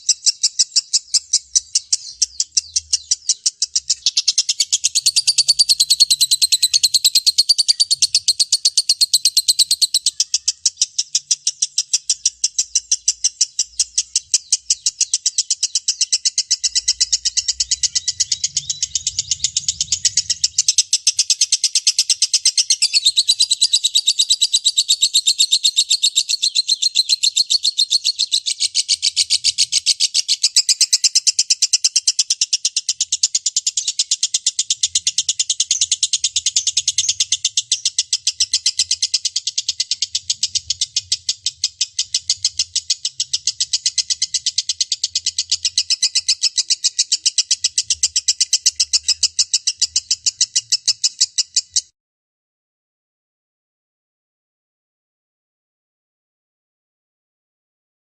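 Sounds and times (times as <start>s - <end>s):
lovebird chattering song: 0.0s - 51.9s.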